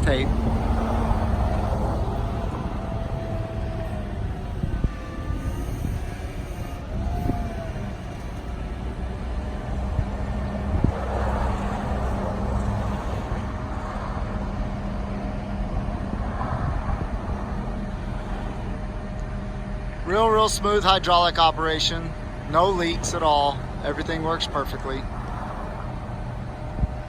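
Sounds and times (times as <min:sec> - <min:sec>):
thin steady whine: 0:00.0 - 0:27.0
truck engine running: 0:00.0 - 0:27.0.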